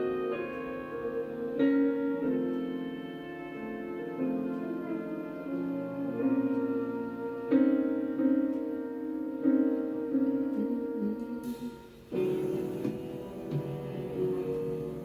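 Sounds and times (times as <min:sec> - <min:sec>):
piano chords: 0:00.0 - 0:15.0
sustained string notes: 0:00.0 - 0:15.0.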